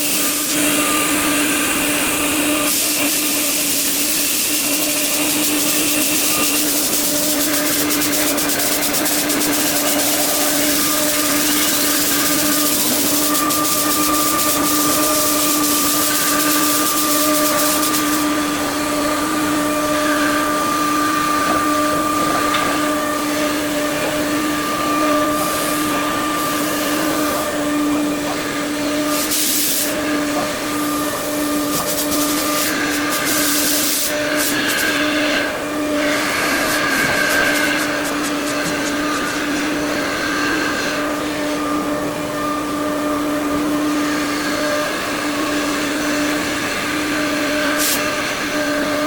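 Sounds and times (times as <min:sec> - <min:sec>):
hiss: 0:00.0 - 0:18.4, 0:22.8 - 0:41.6, 0:45.6 - 0:48.6
machine spindle whine: 0:00.0 - 0:49.0.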